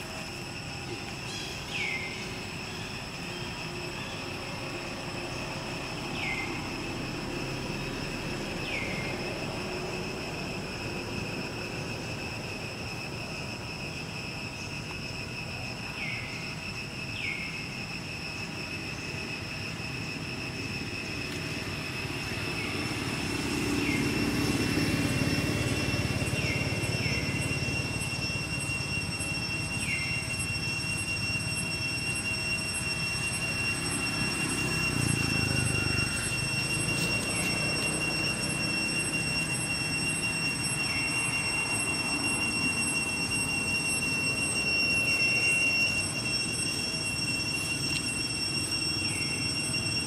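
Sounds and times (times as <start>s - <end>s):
high-pitched insect drone: 0.0s - 50.0s.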